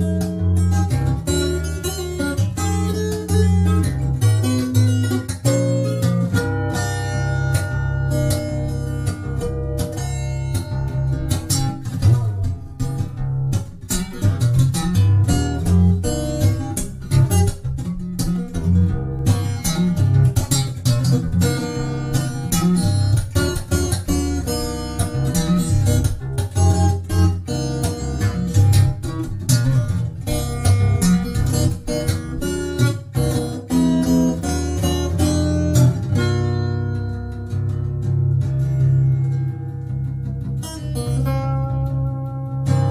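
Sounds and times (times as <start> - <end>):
fingerstyle acoustic guitar: 0.0 - 42.9.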